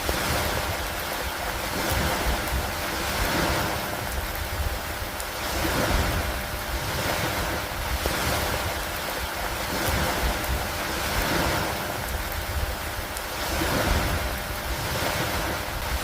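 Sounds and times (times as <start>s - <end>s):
rain on a wooden dock: 0.0s - 16.0s.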